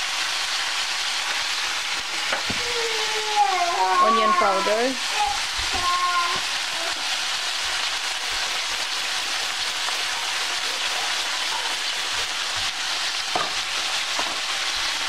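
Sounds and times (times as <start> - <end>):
food sizzling in a skillet: 0.0 - 15.0.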